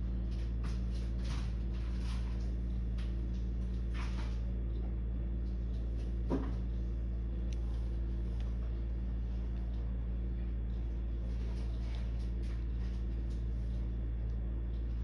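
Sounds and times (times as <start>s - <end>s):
low hum on phone line: 0.0s - 15.0s.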